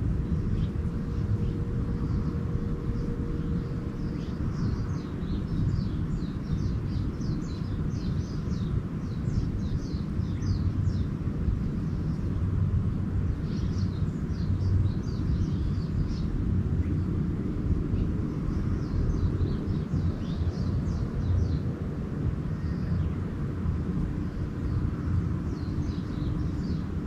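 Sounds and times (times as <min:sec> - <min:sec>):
low outdoor background rumble: 0:00.0 - 0:27.0
small songbirds chirping: 0:00.0 - 0:27.0.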